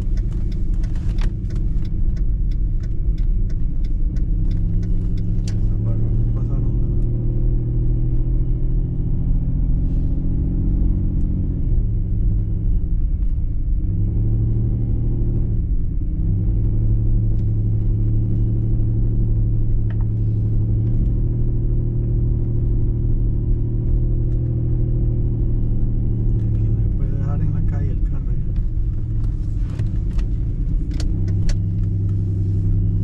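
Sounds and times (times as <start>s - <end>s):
car engine droning: 0.0s - 33.0s
road noise: 0.0s - 33.0s.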